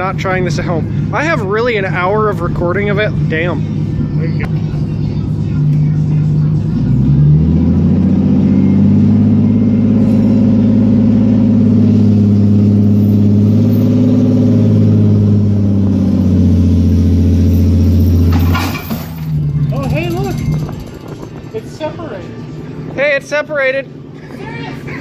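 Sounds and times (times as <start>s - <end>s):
vehicle engine running under load: 0.0s - 25.0s.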